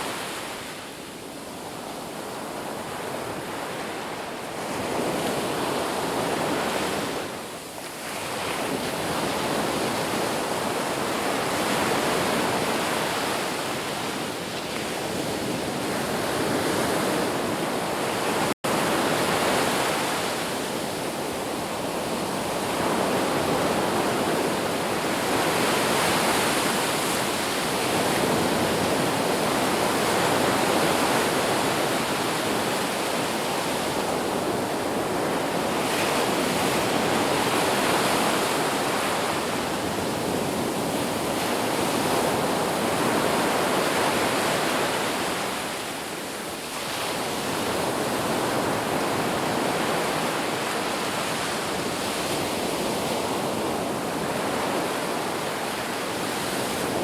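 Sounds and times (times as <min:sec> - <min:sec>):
ocean surf washing ashore: 0:00.0 - 0:57.0.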